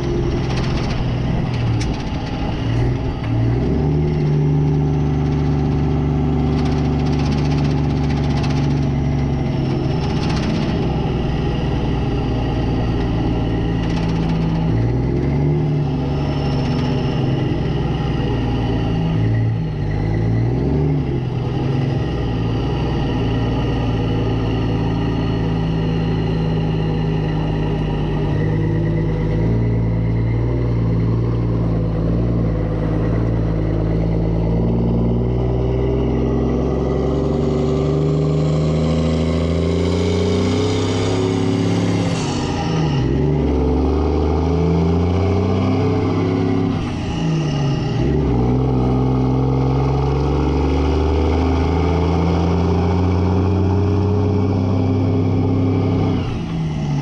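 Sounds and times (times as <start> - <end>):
truck diesel engine shifting gears: 0.0 - 57.0.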